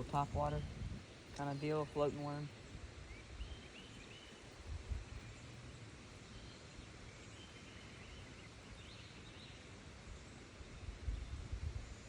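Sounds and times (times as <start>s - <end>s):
faint ambient noise: 0.0s - 12.0s.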